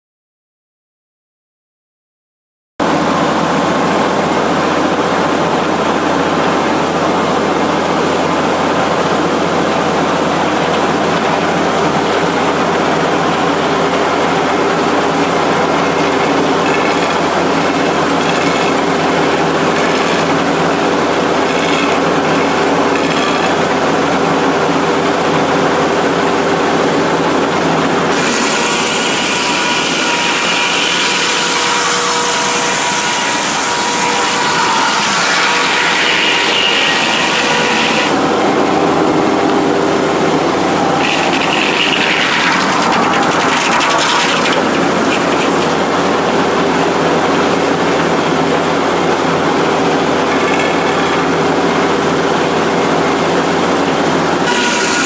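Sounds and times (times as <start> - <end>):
sawmill mechanical drone: 2.8 - 55.0.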